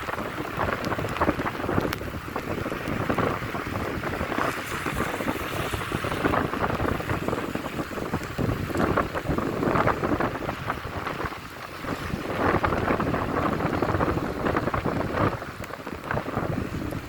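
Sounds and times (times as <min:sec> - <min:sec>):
heavy rain falling: 0:00.0 - 0:17.0
wind gusts buffeting microphone: 0:00.0 - 0:17.0.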